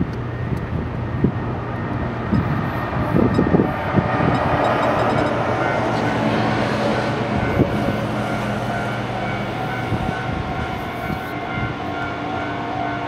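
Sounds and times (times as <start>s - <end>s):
diesel truck engines droning: 0.0s - 12.8s.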